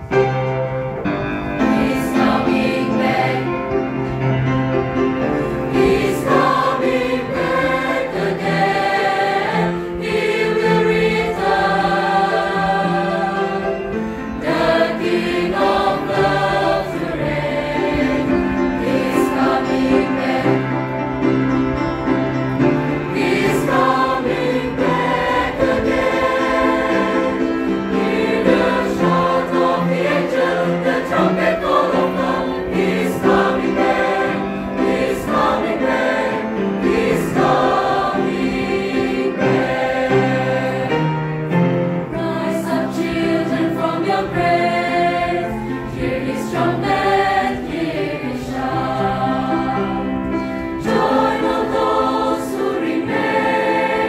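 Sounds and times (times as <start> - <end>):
choir singing gospel: 1.5 - 54.0.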